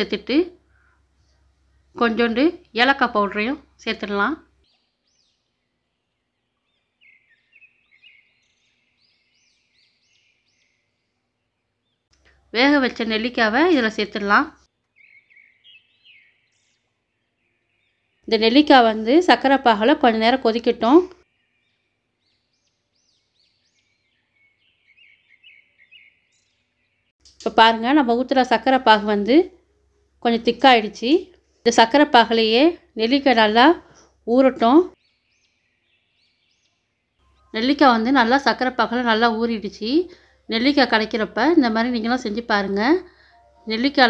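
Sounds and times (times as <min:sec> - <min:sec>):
faint bird chirping: 0:00.0 - 0:44.0.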